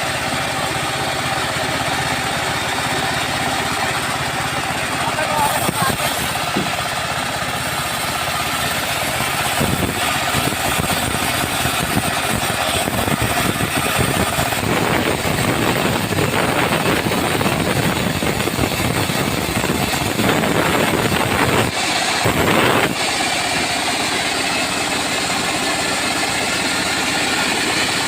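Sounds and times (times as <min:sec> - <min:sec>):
engine-driven saw cutting wood: 0:00.0 - 0:28.0.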